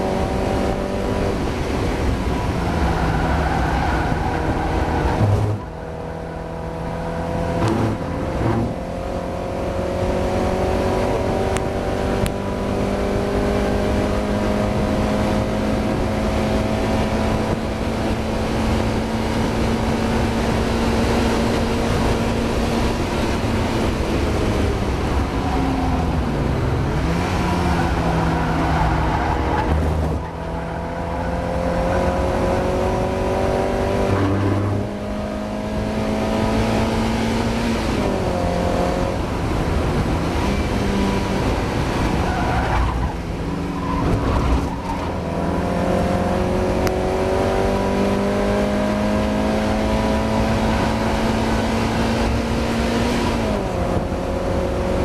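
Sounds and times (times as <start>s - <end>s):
race car engine under load: 0.0s - 55.0s.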